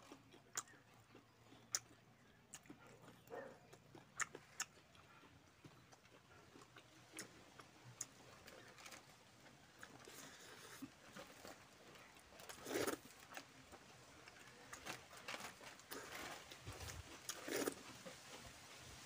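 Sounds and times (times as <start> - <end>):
chewing and mouth clicks: 0.0 - 18.3.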